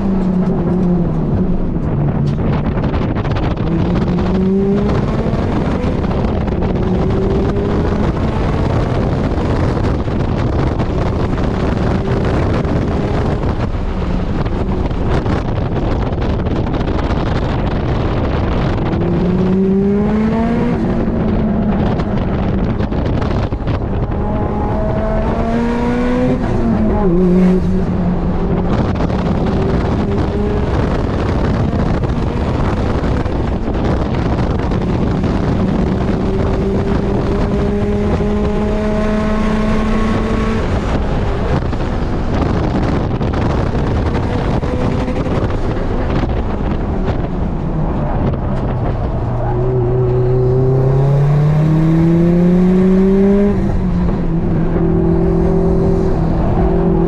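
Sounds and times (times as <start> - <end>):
car engine under hard driving: 0.0 - 57.0
road and wind noise: 0.0 - 57.0.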